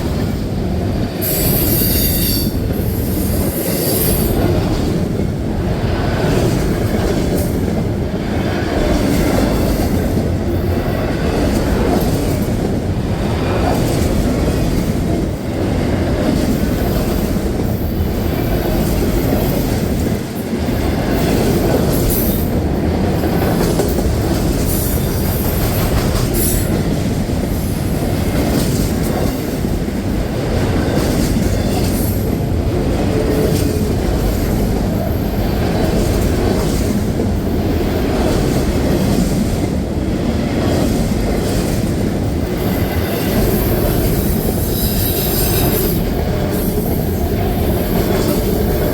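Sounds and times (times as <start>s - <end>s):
train cars rumbling past: 0.0s - 48.9s.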